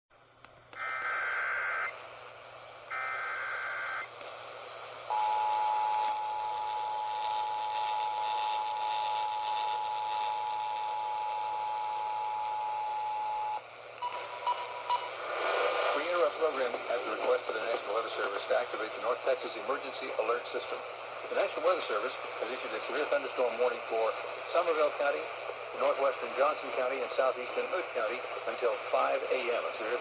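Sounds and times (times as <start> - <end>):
radio background hiss: 0.6 - 30.0.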